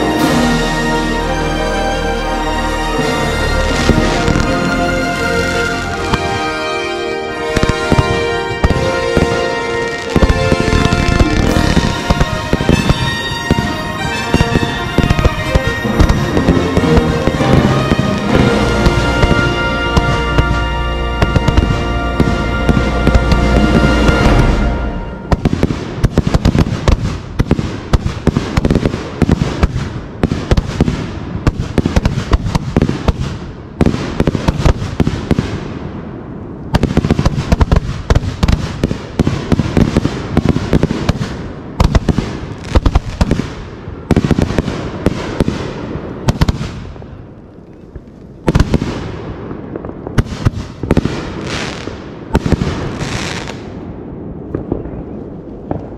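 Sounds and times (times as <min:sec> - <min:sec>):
fireworks bangs and crackle: 0:03.0 - 0:55.9.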